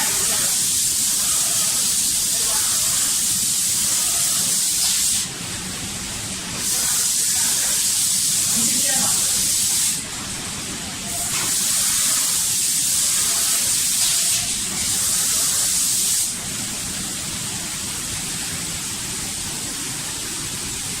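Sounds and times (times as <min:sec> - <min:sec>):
spray gun hissing: 0:00.0 - 0:21.0
steady background noise: 0:00.0 - 0:21.0.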